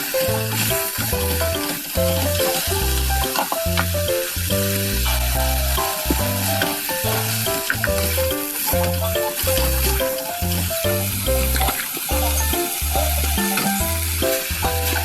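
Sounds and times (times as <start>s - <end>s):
background music with bass line: 0.0s - 15.0s
food sizzling in oil: 0.0s - 15.0s.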